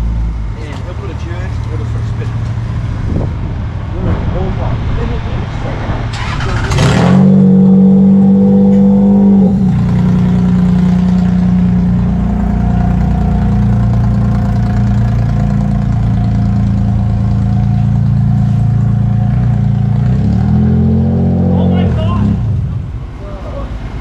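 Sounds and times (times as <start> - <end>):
car engine revving: 1.7 - 23.2.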